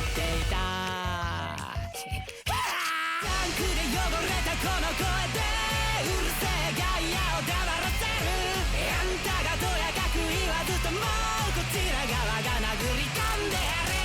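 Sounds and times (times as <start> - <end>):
person singing: 0.0 - 14.0
pop-rock guitar and beat: 0.0 - 14.0.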